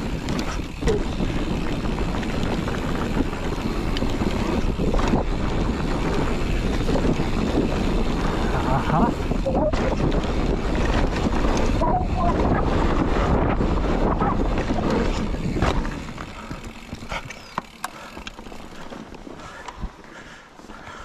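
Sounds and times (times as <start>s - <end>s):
wind buffeting microphone: 0.0s - 20.4s
bike clicks and rattles: 0.0s - 21.0s
bike tyres rumbling on dirt: 0.0s - 21.0s.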